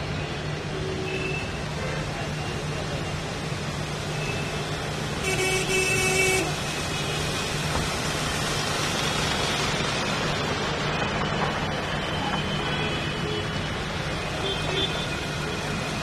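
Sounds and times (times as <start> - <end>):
cars driving through water: 1.4 - 16.0.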